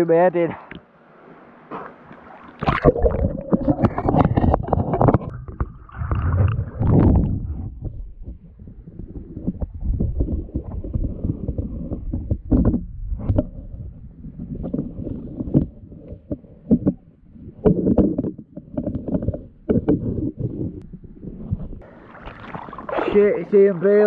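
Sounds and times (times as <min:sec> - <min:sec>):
muffled underwater thumps and knocks: 0:01.7 - 0:23.0.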